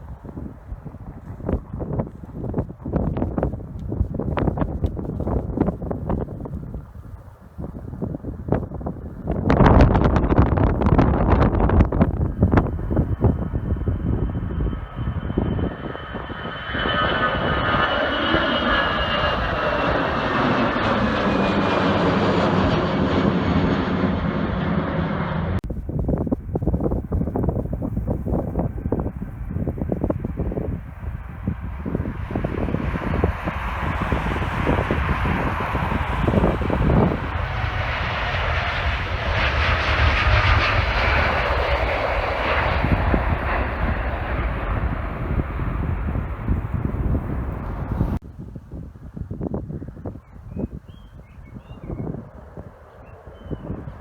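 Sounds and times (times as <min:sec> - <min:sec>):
airliner engines passing: 0:00.0 - 0:54.0
wind rumbling on microphone: 0:00.0 - 0:54.0.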